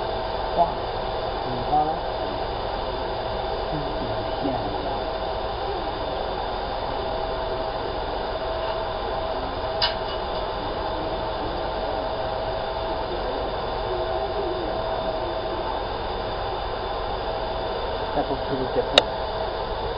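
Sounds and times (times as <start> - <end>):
laser marking machine humming: 0.0 - 19.9.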